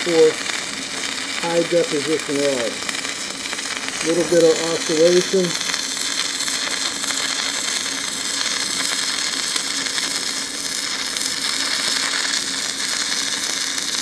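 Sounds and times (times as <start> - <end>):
welding arc hissing: 0.0 - 14.0.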